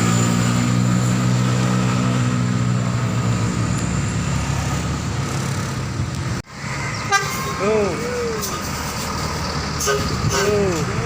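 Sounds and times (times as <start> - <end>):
bus diesel engine passing: 0.0 - 11.0.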